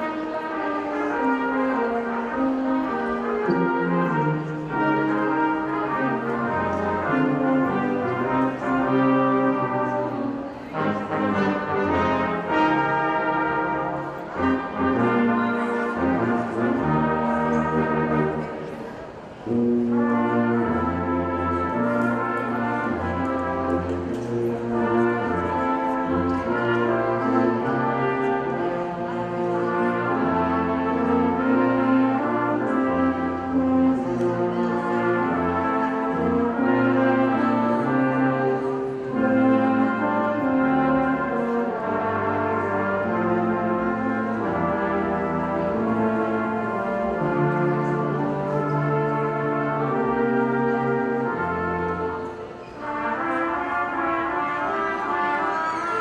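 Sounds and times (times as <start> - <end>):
brass ensemble playing chords: 0.0 - 56.0.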